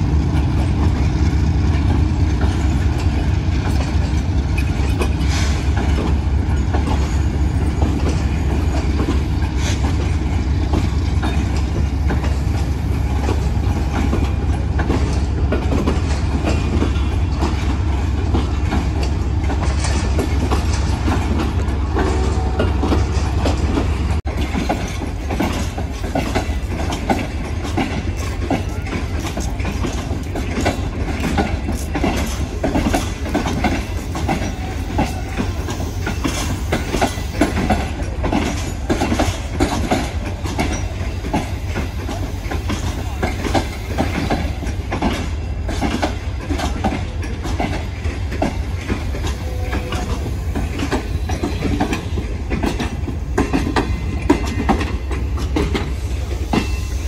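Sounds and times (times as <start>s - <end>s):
train coaches rumbling past: 0.0s - 57.0s
wheels clicking over rail joints: 0.0s - 57.0s.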